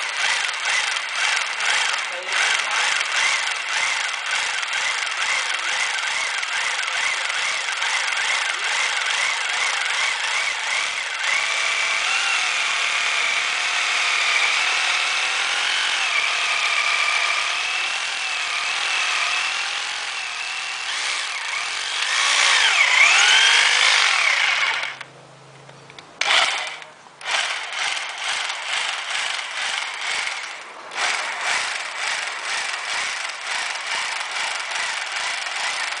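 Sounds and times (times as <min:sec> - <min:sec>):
electric drill boring into tile: 0:00.0 - 0:25.0, 0:26.2 - 0:36.0.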